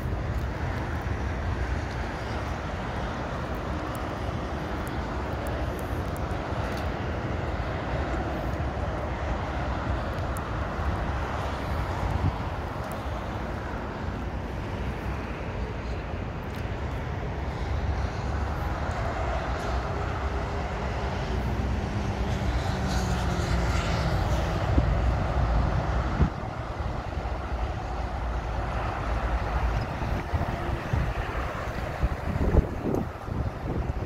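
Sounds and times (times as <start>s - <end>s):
motorway traffic passing: 0.0s - 34.0s
trucks passing: 0.0s - 34.0s
wind rumble on microphone: 0.0s - 34.0s.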